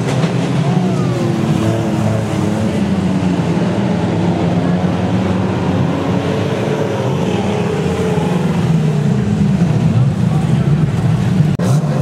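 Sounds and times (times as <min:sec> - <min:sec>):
stockcar engines revving: 0:00.0 - 0:12.0.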